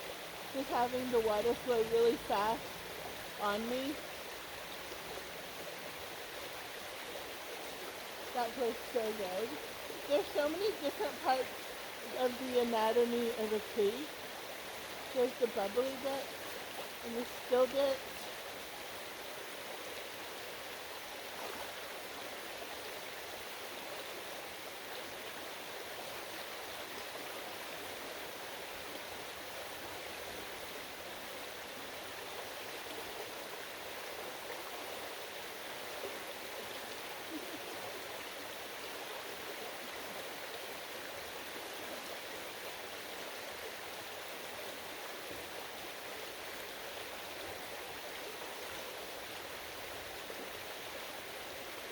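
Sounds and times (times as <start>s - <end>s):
creek water rushing: 0.0s - 51.9s.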